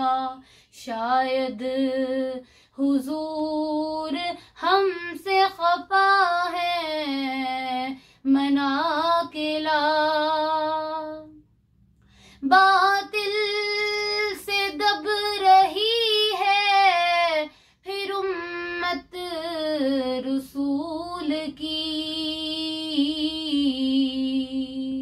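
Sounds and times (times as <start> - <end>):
girl singing unaccompanied: 0.0 - 11.4, 12.4 - 25.0.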